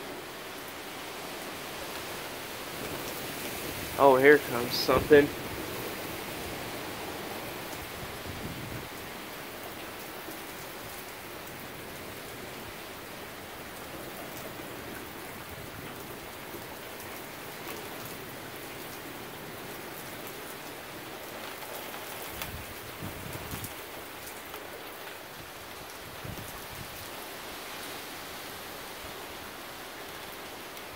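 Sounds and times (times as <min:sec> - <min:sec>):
heavy rain: 0:00.0 - 0:30.9
raindrops ticking on a surface: 0:00.3 - 0:30.9.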